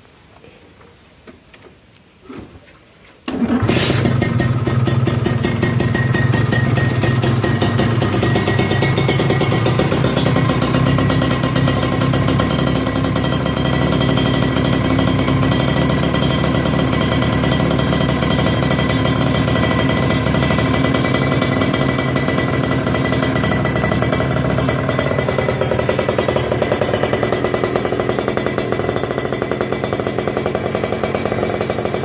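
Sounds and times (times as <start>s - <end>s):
two-stroke motorcycle engine running: 3.3s - 32.0s.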